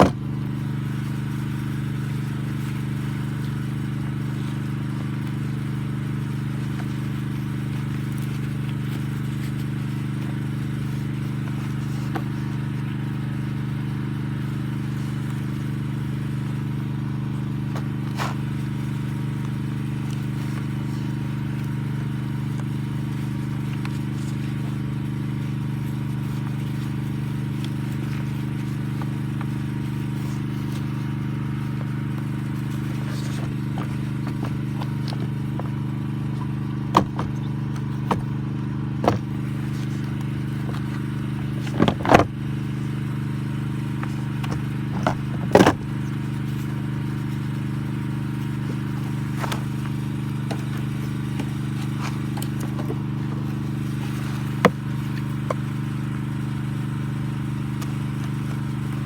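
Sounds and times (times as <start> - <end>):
scooter engine idling: 0.0 - 59.0.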